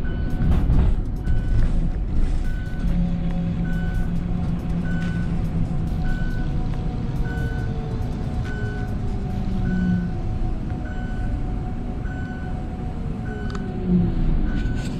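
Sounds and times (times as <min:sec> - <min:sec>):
reversing alarm beeping: 0:00.0 - 0:01.7, 0:02.4 - 0:14.9
low engine and street rumble: 0:00.0 - 0:14.9.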